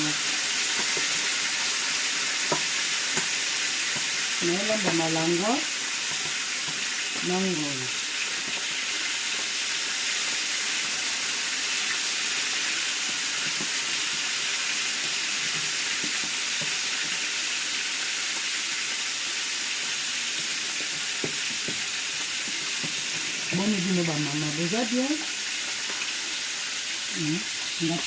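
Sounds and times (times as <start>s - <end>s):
fish sizzling in oil: 0.0s - 28.0s.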